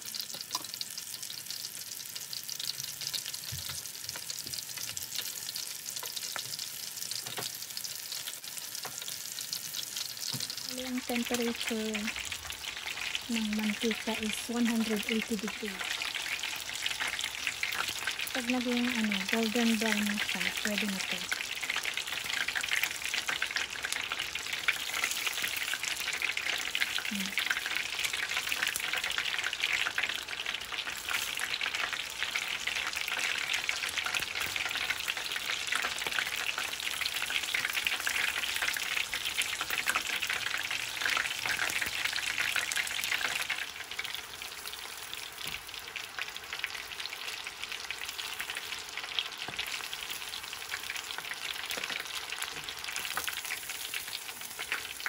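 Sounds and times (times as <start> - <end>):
shrimp deep-frying in oil: 0.0 - 55.0.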